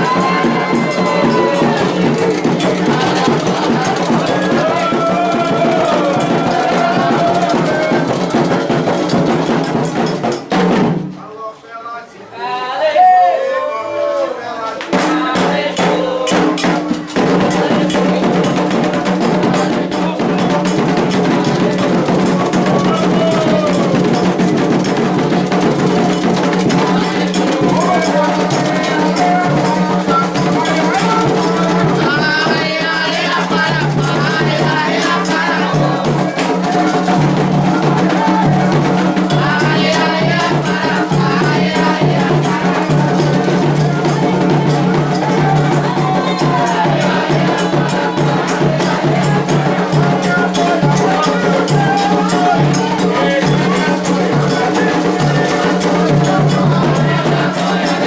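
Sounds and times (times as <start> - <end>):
drumming and hand percussion: 0.0 - 11.2, 14.7 - 58.0
voices singing: 0.0 - 58.0.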